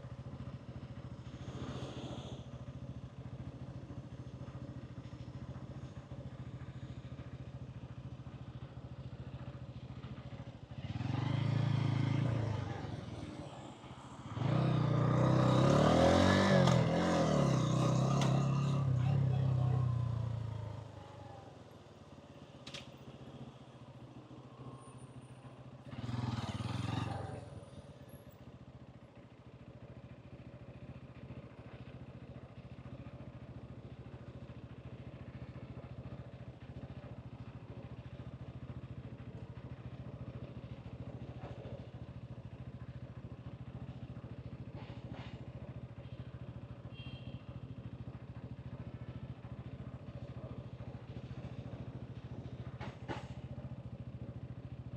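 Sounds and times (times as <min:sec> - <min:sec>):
street traffic: 0:00.0 - 0:54.9
motorcycle engine humming: 0:02.4 - 0:41.2, 0:41.8 - 0:54.9.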